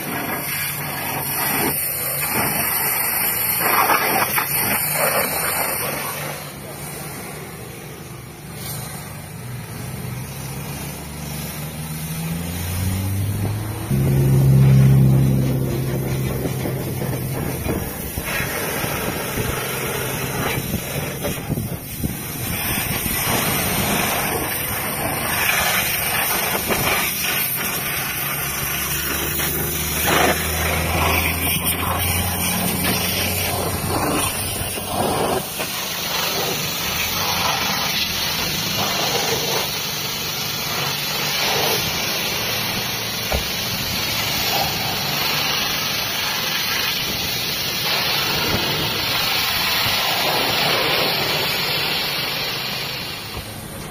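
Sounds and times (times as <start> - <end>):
pressure washer pump humming: 0.0 - 53.9
water jet hissing and spattering: 0.0 - 53.9.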